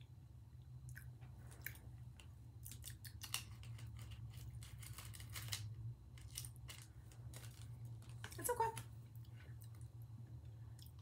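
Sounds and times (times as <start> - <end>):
steady low hum: 0.0 - 11.0
crisp biscuit crunching: 0.9 - 10.0.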